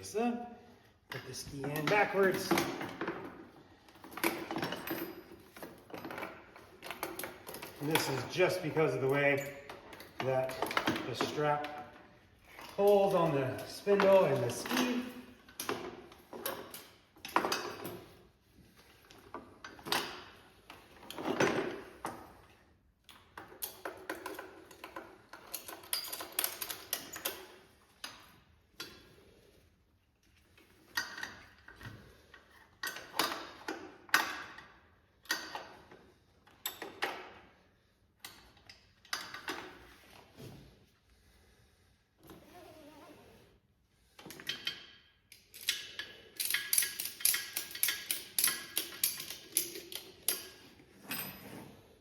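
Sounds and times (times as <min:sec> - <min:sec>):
handling knocks clicks and scrapes: 0:01.0 - 0:41.0, 0:44.1 - 0:52.0.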